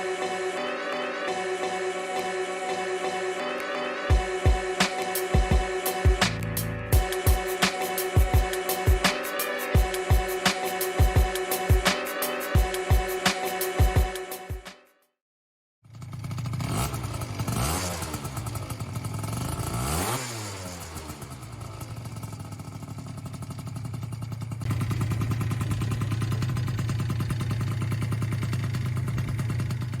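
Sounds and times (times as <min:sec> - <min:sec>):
scooter engine revving and idling: 0:04.1 - 0:14.1, 0:15.8 - 0:30.0.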